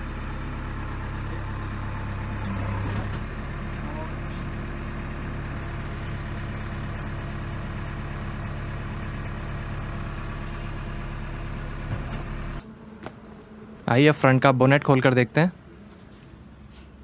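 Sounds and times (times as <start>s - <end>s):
diesel engine idling: 0.0s - 14.2s.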